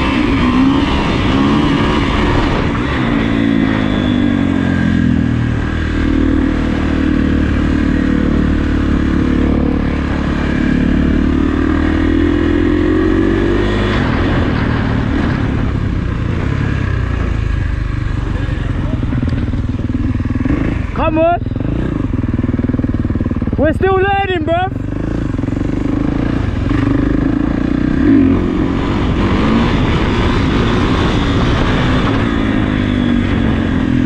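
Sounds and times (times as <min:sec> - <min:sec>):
dirt bike engine under throttle: 0:00.0 - 0:34.0.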